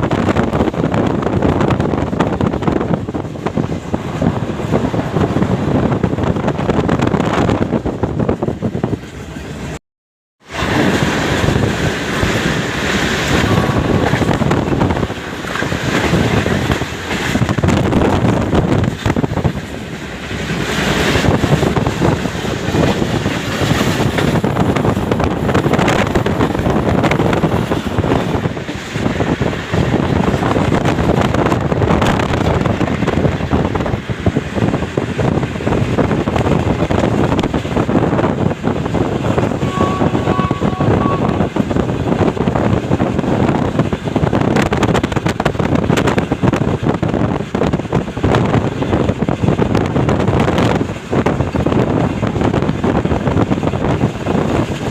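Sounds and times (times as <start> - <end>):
train rushing rumble: 0.0 - 9.8, 10.4 - 54.9
wind buffeting microphone: 0.0 - 9.8, 10.4 - 54.9.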